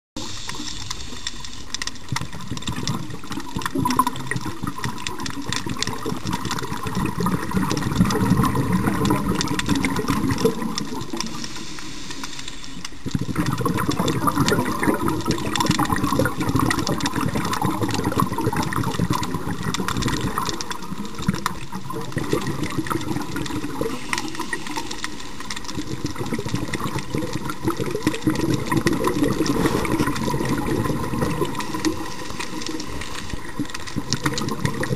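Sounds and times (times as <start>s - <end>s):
gurgling bubble surges: 0.2s - 11.8s, 12.9s - 34.9s
lobsters clicking and rattling: 0.2s - 34.9s.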